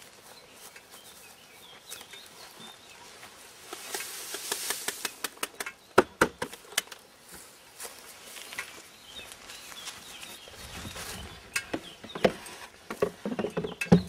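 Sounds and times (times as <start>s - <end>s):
grass clippings rustling: 0.0s - 5.8s, 6.5s - 12.8s.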